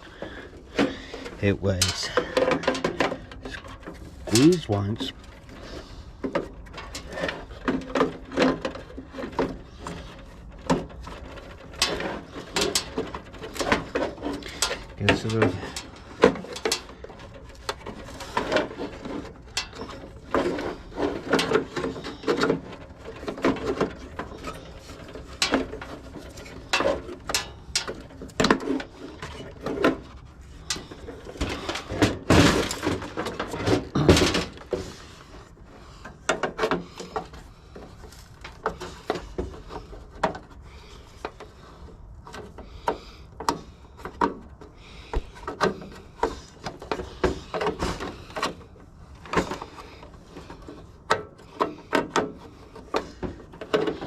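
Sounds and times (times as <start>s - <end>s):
clicks and knocks of metal parts: 0.1s - 54.0s.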